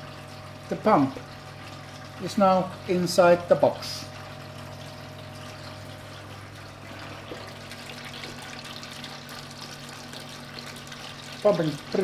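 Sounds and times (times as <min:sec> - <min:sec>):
electric pump motor hum: 0:00.0 - 0:12.0
water pouring: 0:00.0 - 0:12.0.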